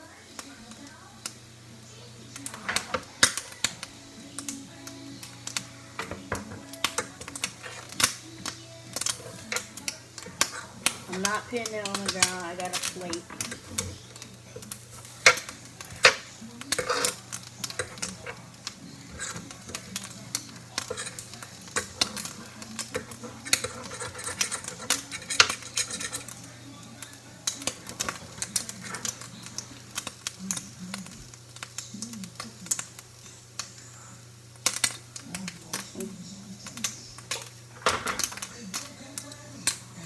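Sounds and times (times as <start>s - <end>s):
utensils clattering on pan and plate: 0.1s - 33.9s, 34.6s - 40.0s.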